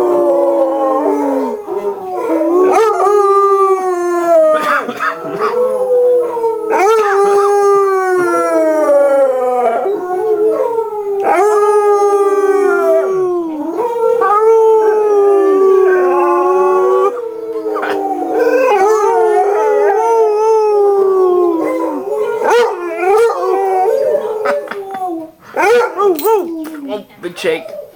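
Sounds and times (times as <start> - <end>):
dog howling: 0.0 - 27.0.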